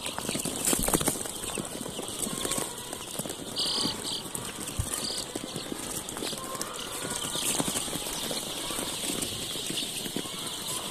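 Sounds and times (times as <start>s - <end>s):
chicks peeping: 0.0s - 10.9s.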